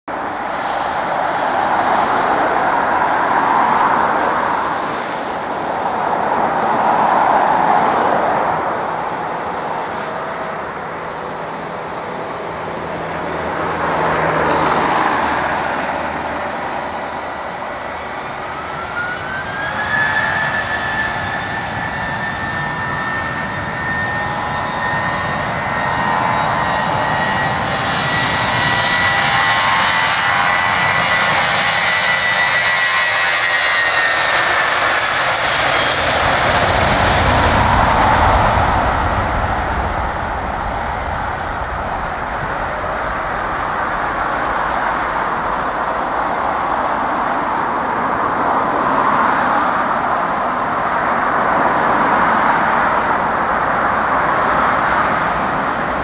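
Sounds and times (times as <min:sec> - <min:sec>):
jet engines running: 0:00.1 - 0:56.0
jet engines spooling up whine: 0:00.1 - 0:56.0.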